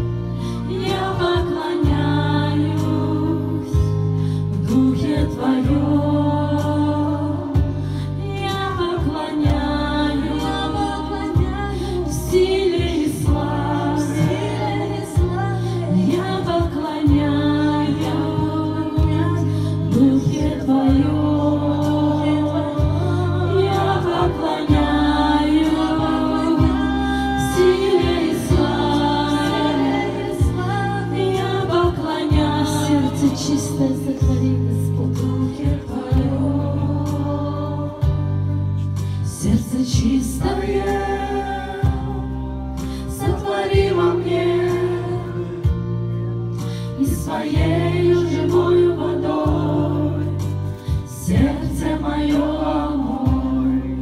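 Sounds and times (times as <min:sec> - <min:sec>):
sustained low instrumental chords: 0:00.0 - 0:54.0
women singing worship song: 0:00.0 - 0:54.0.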